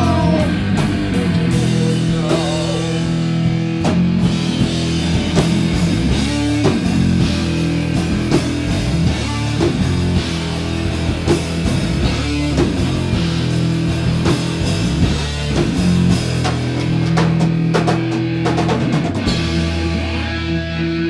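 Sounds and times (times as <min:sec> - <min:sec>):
drum kit hits: 0:00.0 - 0:20.4
electric guitars and bass: 0:00.0 - 0:21.0.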